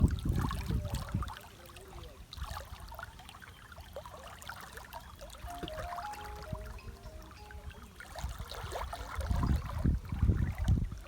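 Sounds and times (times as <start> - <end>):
stream trickling and splashing: 0.0 - 11.0.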